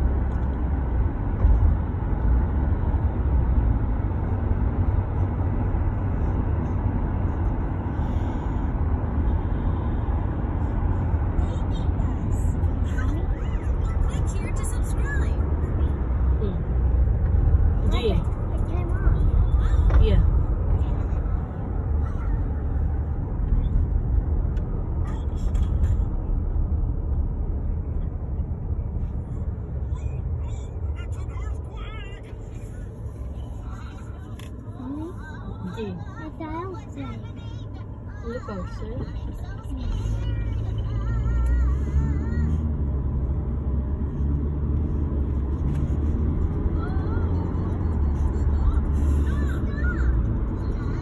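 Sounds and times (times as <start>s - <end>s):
car cabin road rumble: 0.0s - 51.0s.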